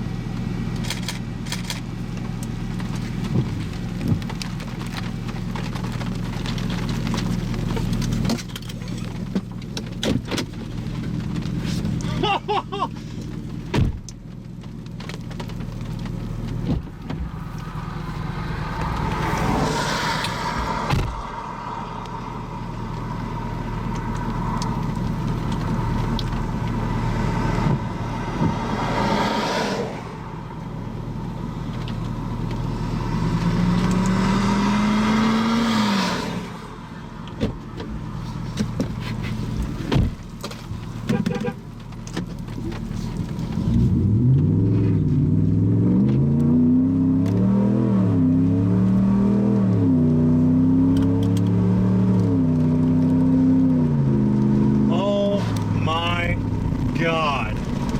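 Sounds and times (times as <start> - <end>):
car engine: 0.0 - 57.9
road noise: 0.0 - 57.9.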